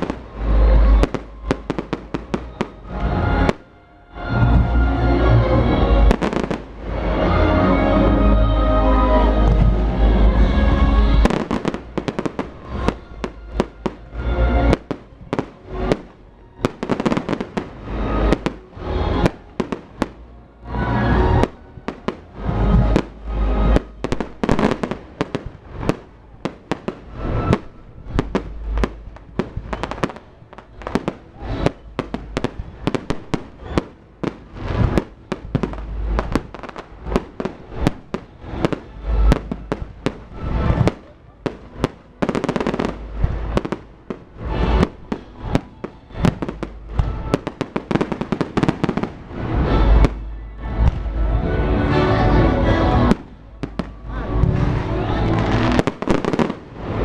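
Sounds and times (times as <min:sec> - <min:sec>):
fireworks bangs and booms: 0:00.0 - 0:03.7, 0:05.9 - 0:07.2, 0:09.3 - 0:51.4, 0:52.8 - 0:57.0
music: 0:00.0 - 0:57.0.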